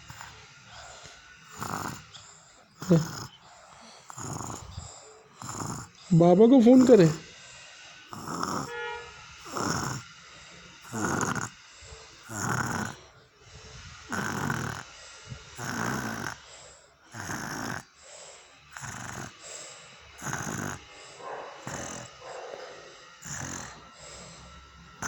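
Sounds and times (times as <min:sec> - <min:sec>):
child snoring: 0:00.0 - 0:25.0.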